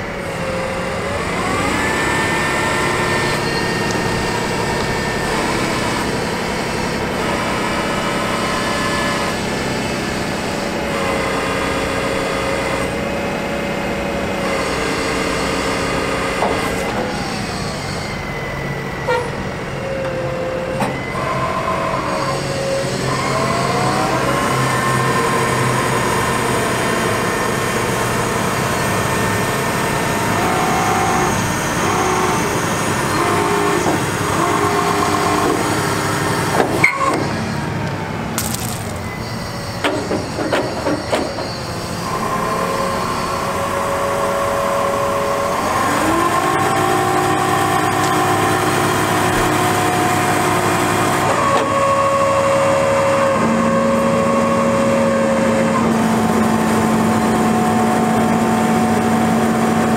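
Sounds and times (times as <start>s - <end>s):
hydraulic whine: 0.0s - 59.9s
truck engine: 0.0s - 59.9s.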